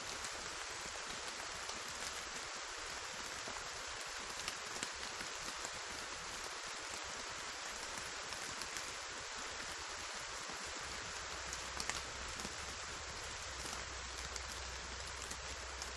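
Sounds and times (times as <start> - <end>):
heavy rainfall hissing: 0.0 - 15.9
sharp raindrop ticks: 0.0 - 15.9.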